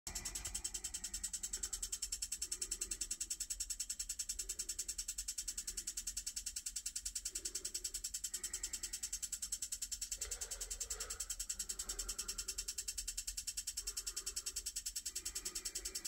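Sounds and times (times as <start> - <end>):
rapid steady clicking: 0.1 - 16.0.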